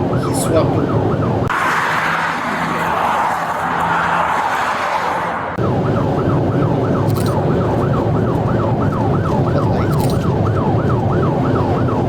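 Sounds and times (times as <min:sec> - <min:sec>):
car engine and road noise: 0:00.0 - 0:12.0
police siren yelping: 0:00.0 - 0:12.0.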